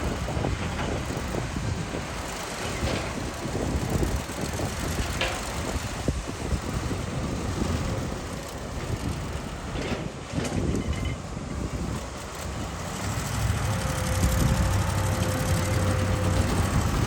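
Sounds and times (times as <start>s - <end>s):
excavator and truck engines rumbling: 0.0s - 17.0s.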